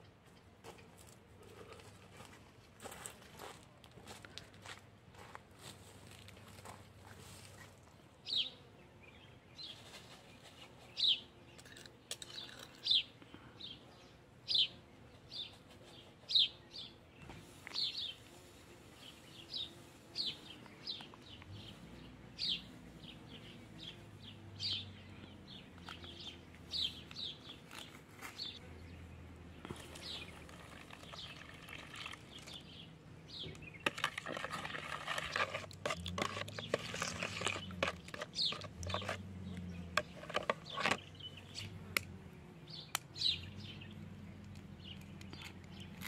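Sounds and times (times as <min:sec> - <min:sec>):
small birds chirping: 0:04.1 - 0:46.0.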